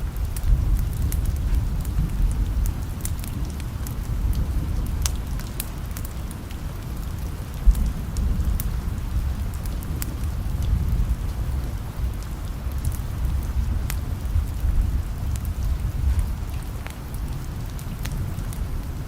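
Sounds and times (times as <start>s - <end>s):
steady rain: 0.0s - 19.0s
wood fire crackling and popping: 0.0s - 19.0s.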